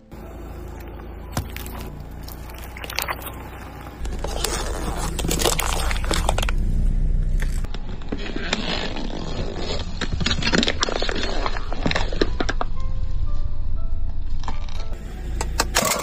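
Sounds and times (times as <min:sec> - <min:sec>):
car engine rumbling: 0:00.0 - 0:16.0
tire crushing plastic cups: 0:00.7 - 0:12.9, 0:14.1 - 0:16.0.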